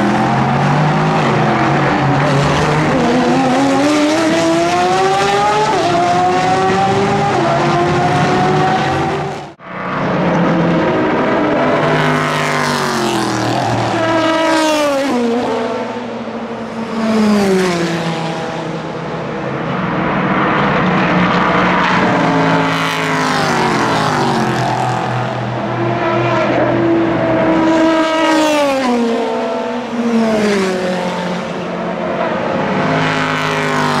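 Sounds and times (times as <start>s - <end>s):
race cars passing at full throttle: 0.0s - 34.0s.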